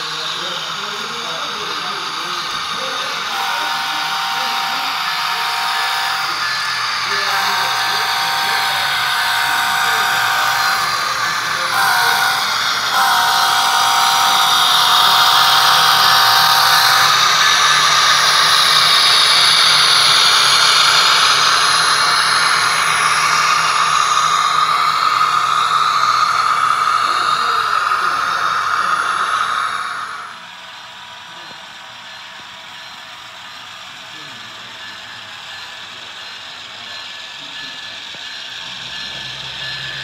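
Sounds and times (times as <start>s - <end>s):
model locomotive motor whine: 0.0s - 40.0s.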